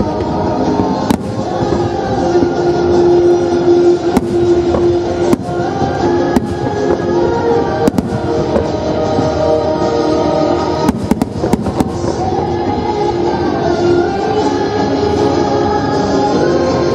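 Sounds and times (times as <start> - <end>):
fireworks bursting with bangs: 0.0 - 14.9
steady music: 0.0 - 16.9.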